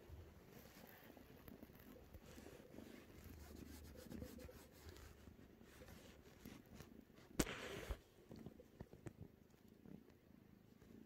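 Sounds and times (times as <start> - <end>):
soft rustling: 0.0 - 11.0
kitten purring: 0.4 - 11.0.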